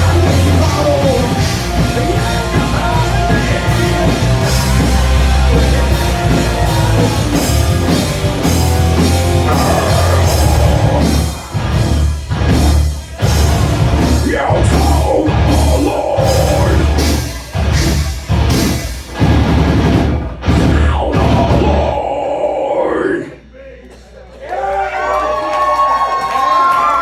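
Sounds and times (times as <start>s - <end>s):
black metal band playing live: 0.0s - 23.2s.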